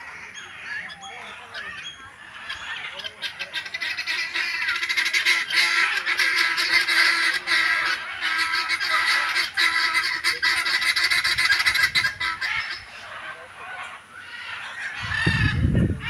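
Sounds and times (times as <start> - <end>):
guineafowl calling: 0.0 - 16.0.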